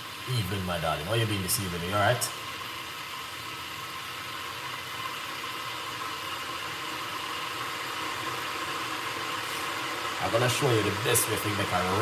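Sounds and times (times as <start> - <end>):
water boiling: 0.0 - 12.0.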